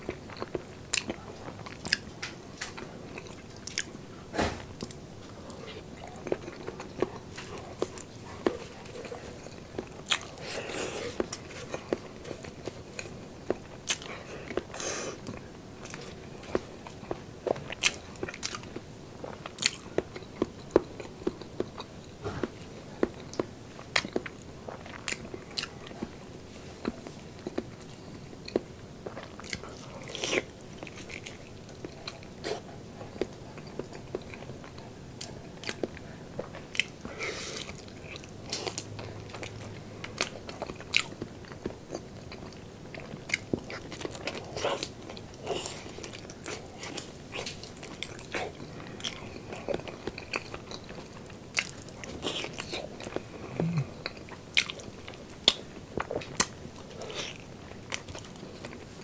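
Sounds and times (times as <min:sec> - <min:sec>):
wet chewing mouth sounds: 0:00.0 - 0:59.0.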